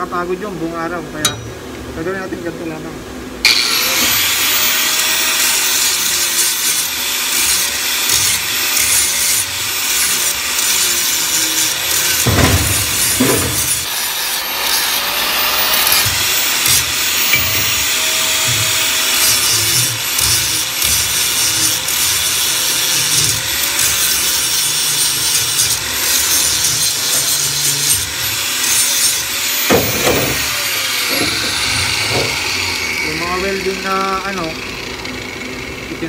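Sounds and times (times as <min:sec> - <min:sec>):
angle grinder grinding metal: 0:03.4 - 0:36.0.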